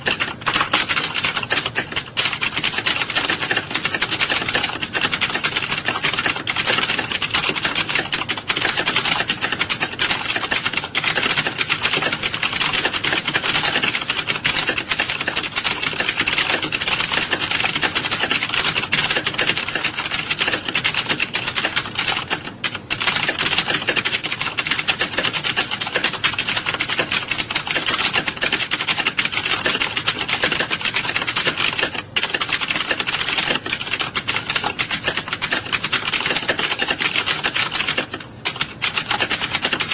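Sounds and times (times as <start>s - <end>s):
many keyboards typing: 0.0s - 39.9s.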